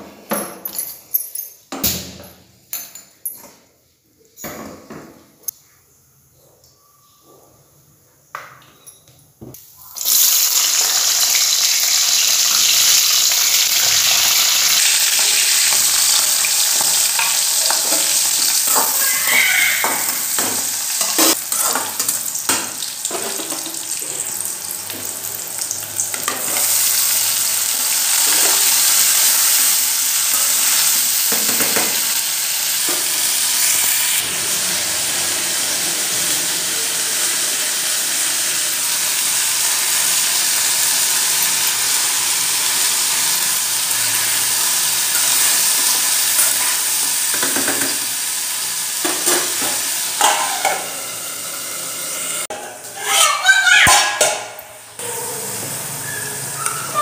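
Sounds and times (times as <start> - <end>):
vegetables sizzling in hot oil: 9.6 - 57.0.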